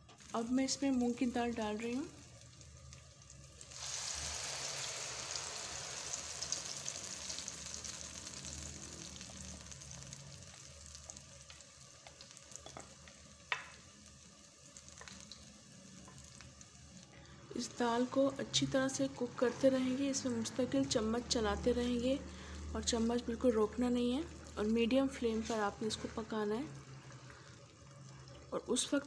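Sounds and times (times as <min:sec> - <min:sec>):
batter sizzling in hot oil: 0:00.0 - 0:29.0.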